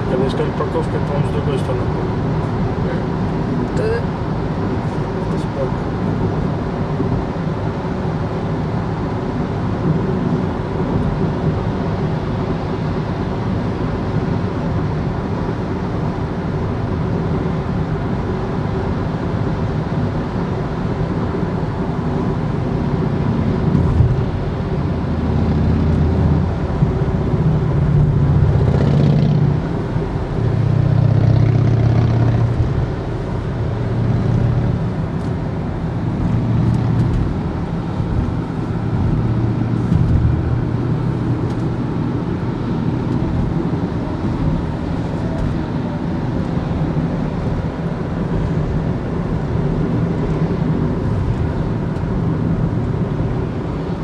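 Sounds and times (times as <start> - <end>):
car engine hum: 0.0 - 54.0
road and tyre noise: 0.0 - 54.0.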